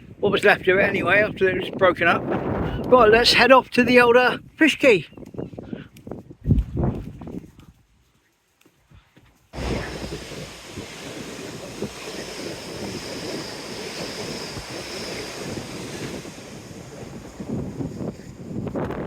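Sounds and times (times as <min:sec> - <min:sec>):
gusty wind on microphone: 0:00.0 - 0:08.0, 0:09.5 - 0:19.0.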